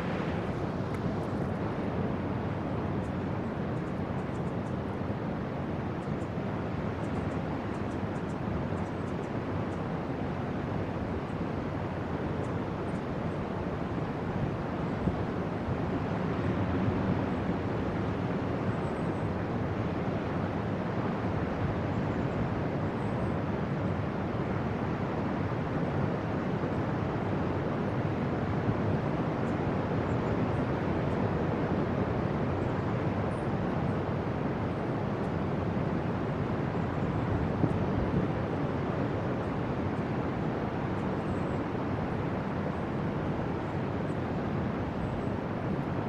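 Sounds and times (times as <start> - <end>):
distant ocean surf: 0.0 - 46.0.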